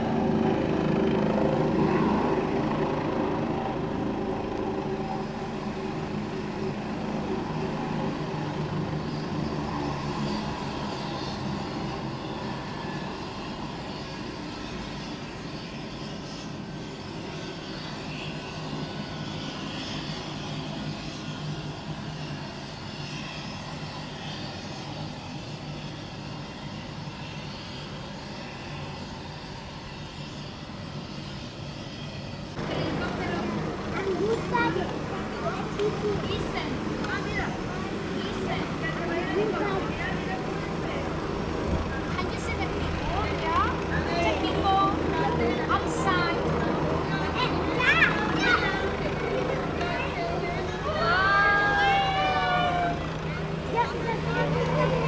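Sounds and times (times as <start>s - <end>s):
helicopter rotor turning: 0.0s - 55.0s
helicopter turbine engines whining: 0.0s - 55.0s.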